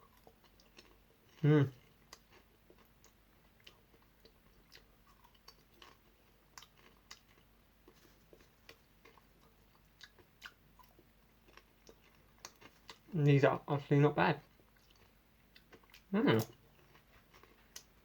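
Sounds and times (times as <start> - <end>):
chewing popcorn crunches: 0.0 - 13.2, 14.4 - 18.0.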